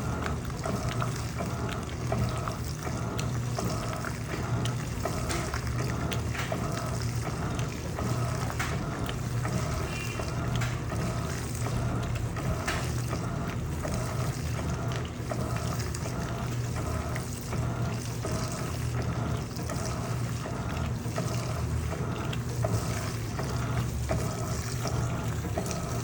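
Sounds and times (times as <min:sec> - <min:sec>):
rhythmic water swishing: 0:00.0 - 0:26.0
washing machine motor hum: 0:00.0 - 0:26.0.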